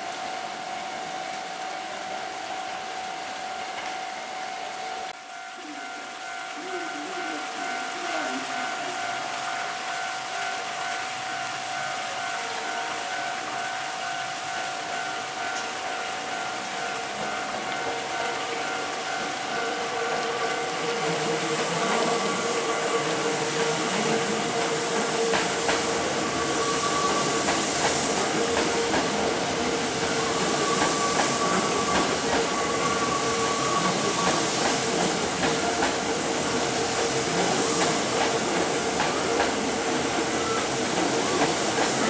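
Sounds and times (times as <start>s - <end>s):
train rolling noise: 0.0s - 42.0s.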